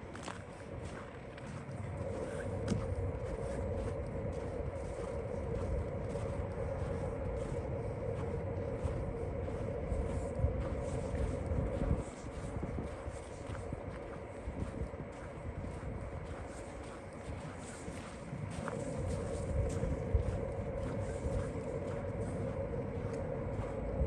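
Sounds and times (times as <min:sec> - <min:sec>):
engine drone with low rumble: 0:00.0 - 0:24.0.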